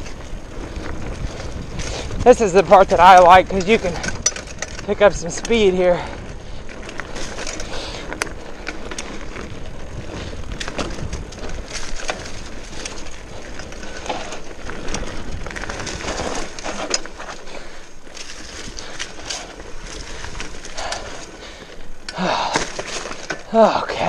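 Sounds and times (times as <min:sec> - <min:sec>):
bike clicks and rattles: 0:00.0 - 0:24.0
bike tyres crunching over leaves: 0:00.0 - 0:24.0.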